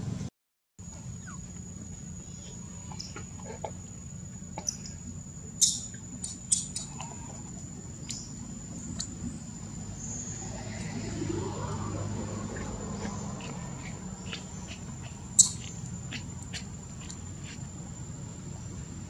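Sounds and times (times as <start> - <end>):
insects droning: 0.8 - 19.0.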